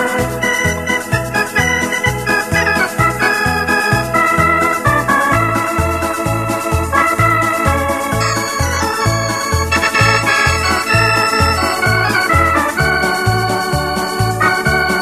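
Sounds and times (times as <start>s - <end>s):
electronic organ music: 0.0s - 15.0s.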